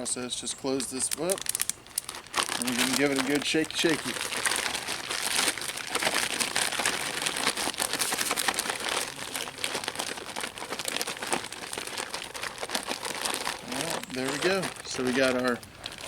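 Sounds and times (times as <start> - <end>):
plastic bag crinkling while shaken: 0.8 - 16.0.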